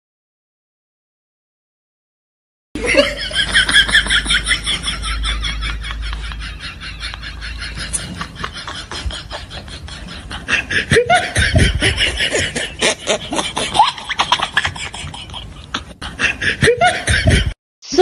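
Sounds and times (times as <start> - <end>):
breathy laughter: 2.8 - 17.6.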